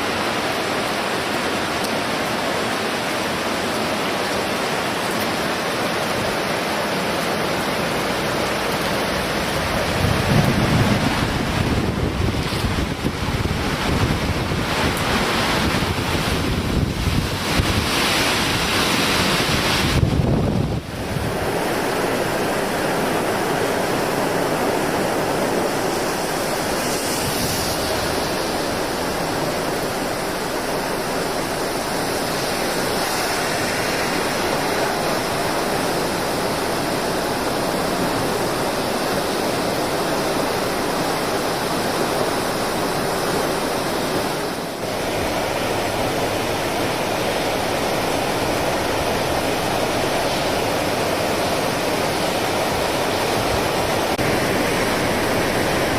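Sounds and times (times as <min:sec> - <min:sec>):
flooded river rushing: 0:00.0 - 0:55.9.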